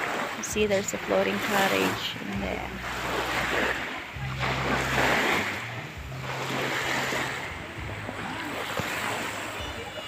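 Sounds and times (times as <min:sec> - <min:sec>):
surf washing onto beach: 0:00.0 - 0:10.0.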